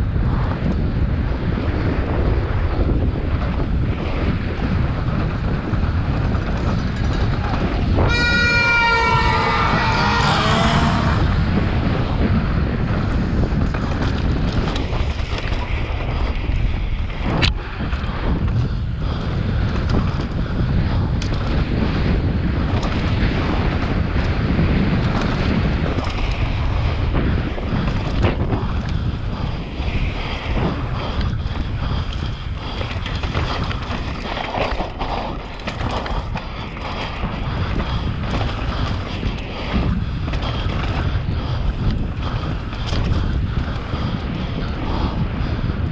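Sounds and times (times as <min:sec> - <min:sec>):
bike rattling and knocking: 0:00.0 - 0:45.9
bike tyres crunching on dirt: 0:00.0 - 0:45.9
wind buffeting microphone: 0:00.0 - 0:45.9.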